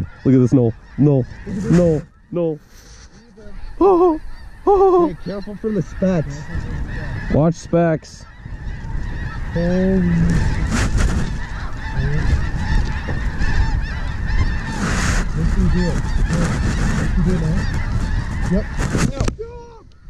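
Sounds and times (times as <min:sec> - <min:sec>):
flock of geese honking: 0:00.0 - 0:20.0.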